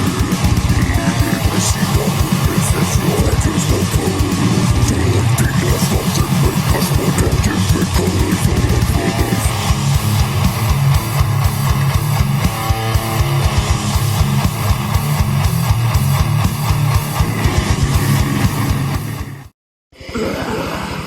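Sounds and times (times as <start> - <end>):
heavy metal music: 0.0 - 19.6.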